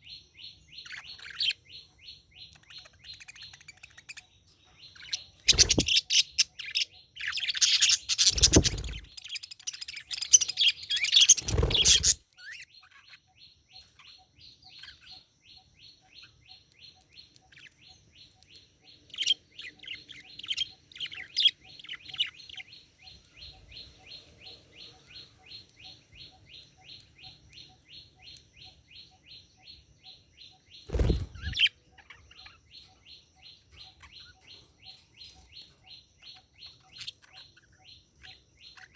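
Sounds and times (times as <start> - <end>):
budgerigars chattering: 0.0 - 15.2, 19.1 - 29.4, 30.4 - 38.9.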